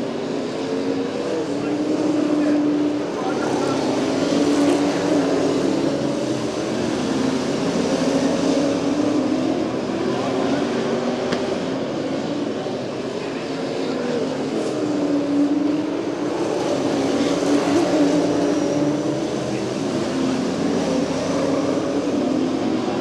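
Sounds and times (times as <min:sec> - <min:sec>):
race car engines passing: 0:00.0 - 0:23.0.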